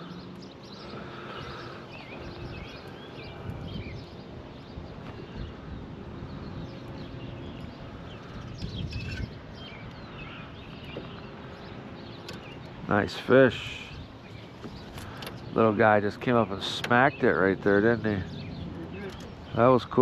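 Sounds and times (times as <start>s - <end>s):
songbirds chirping: 0.0s - 20.0s
wind rumbling on microphone: 0.0s - 20.0s.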